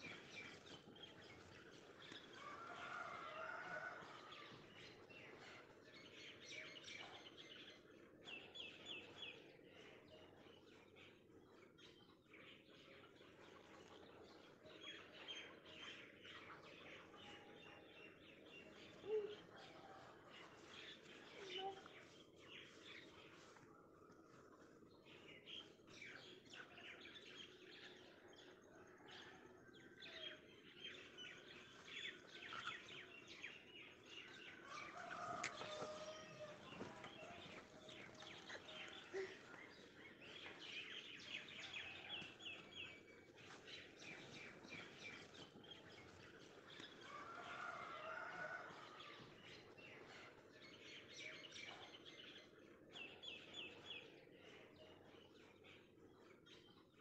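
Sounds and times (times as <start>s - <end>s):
faint birds chirping: 0.0s - 57.0s.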